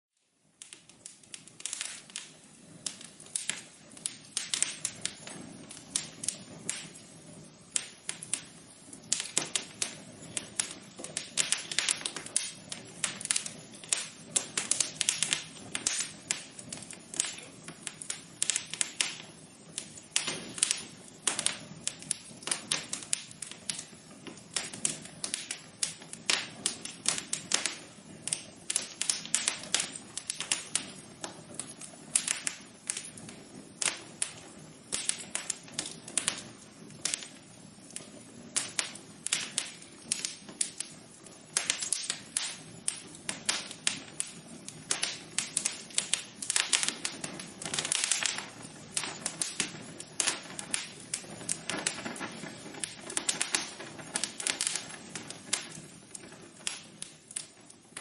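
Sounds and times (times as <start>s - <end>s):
faint steady background noise: 0.2s - 58.0s
wood fire crackling: 0.2s - 58.0s.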